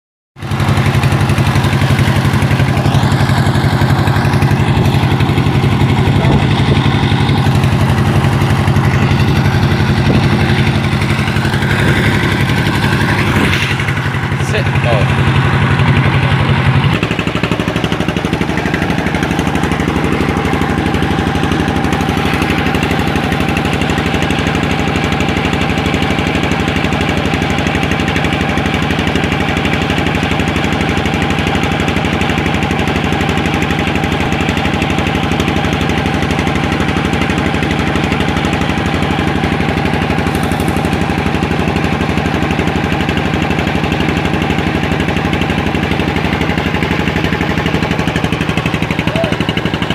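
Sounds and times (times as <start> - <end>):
small engine running: 0.4 - 49.9.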